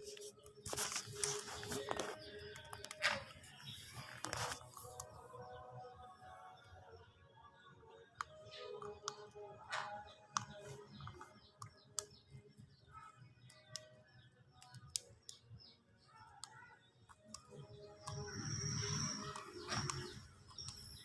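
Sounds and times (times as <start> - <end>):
faint background music: 0.0 - 21.0.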